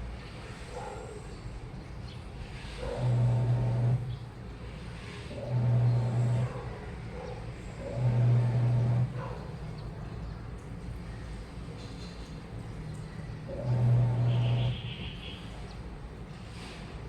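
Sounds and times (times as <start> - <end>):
washing machine churning: 0.0 - 17.0
washing machine motor hum: 1.5 - 17.0.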